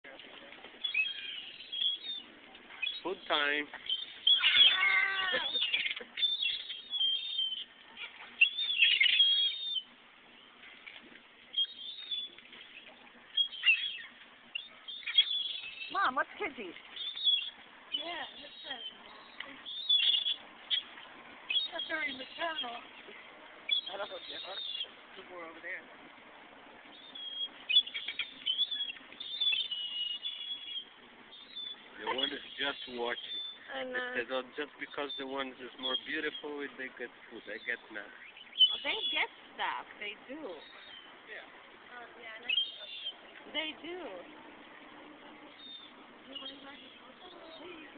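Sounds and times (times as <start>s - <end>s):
birds calling and chirping: 0.1s - 47.9s.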